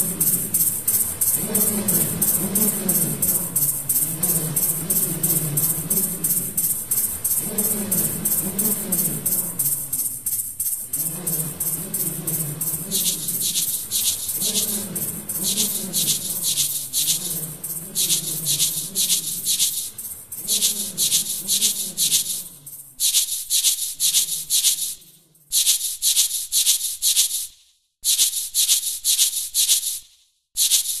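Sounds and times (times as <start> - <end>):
shaker rhythm: 0.0 - 31.0.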